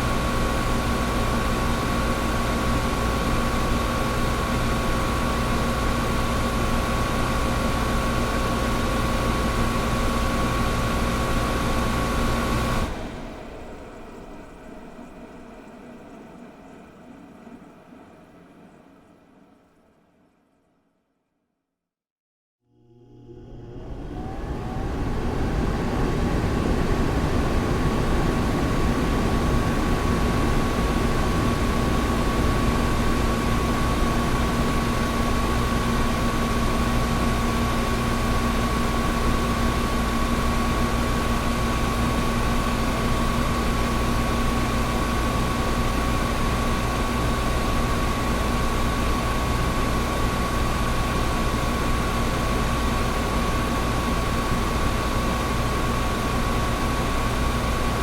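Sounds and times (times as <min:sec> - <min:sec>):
air conditioner running: 0:00.0 - 0:17.2, 0:22.8 - 0:58.0.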